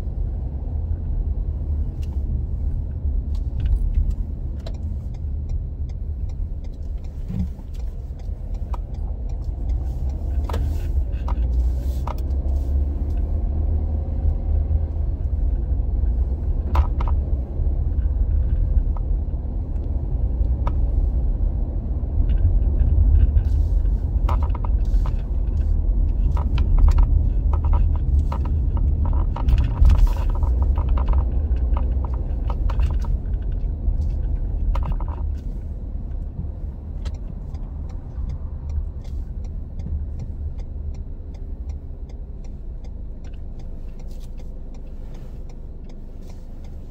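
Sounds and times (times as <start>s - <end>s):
car engine and tyres rumbling: 0.0s - 46.9s
turn signal ticking: 0.0s - 46.9s
light rattling and clicks: 2.9s - 46.9s.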